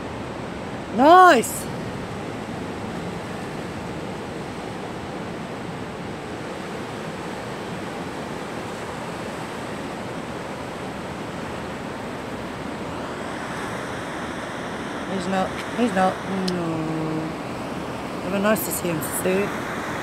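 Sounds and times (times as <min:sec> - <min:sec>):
ocean surf breaking: 0:01.0 - 0:20.0.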